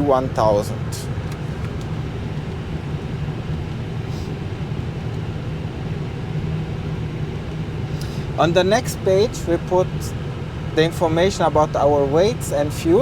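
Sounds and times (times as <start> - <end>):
cockpit ventilation hum: 0.0 - 13.0.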